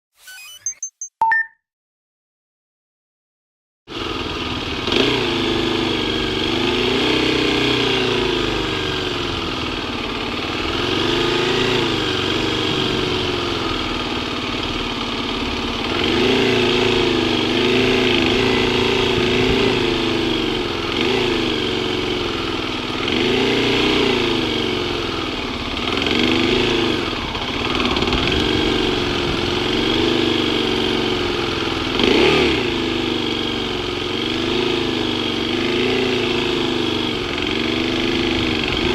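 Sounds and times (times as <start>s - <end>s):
motorcycle engine revving: 3.9s - 38.9s.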